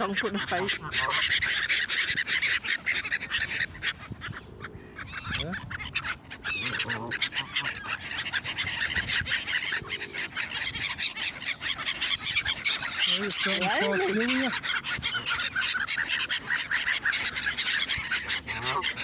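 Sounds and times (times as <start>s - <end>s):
geese honking: 0.0s - 19.0s
gulls calling: 0.0s - 19.0s.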